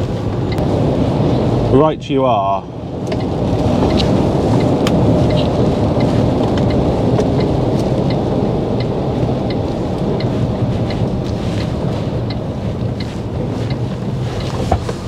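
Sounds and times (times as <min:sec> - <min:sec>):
truck engine rumble: 0:00.0 - 0:15.0
tyre and rain noise: 0:00.0 - 0:15.0.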